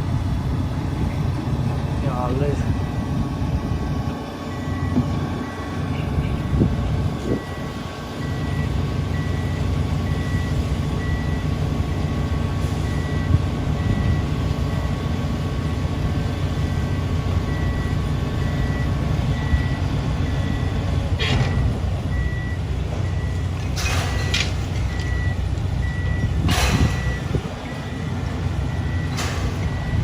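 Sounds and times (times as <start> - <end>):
diesel engine rumbling: 0.0 - 30.0
reversing alarm beeping: 4.5 - 6.4, 7.2 - 30.0.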